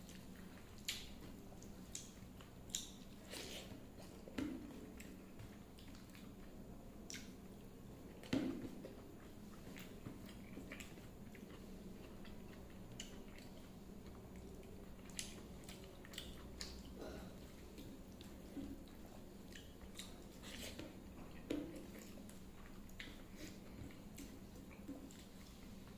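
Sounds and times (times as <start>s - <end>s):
faint steady hum: 0.0s - 25.9s
person chewing food: 0.0s - 25.9s.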